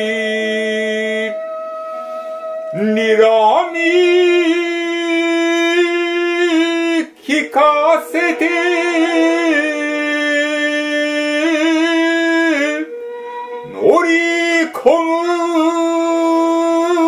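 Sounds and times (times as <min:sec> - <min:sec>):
single voice chanting long notes: 0:00.0 - 0:17.0.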